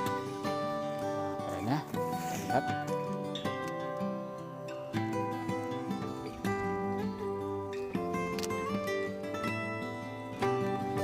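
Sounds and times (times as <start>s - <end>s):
gentle plucked guitar music: 0.0s - 11.0s.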